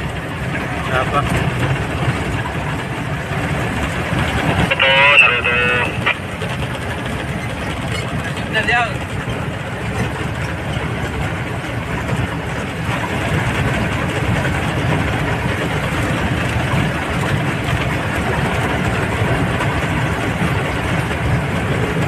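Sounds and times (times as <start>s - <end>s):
road and wind noise: 0.0s - 22.0s
vehicle engine running: 0.0s - 22.0s.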